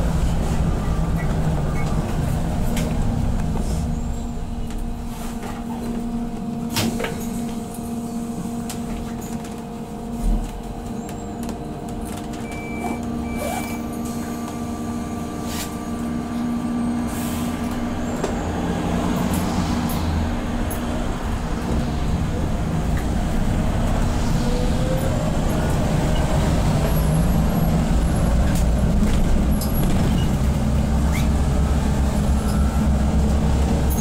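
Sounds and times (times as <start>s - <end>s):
diesel engine hum: 0.0s - 34.0s
road rumble: 0.0s - 34.0s.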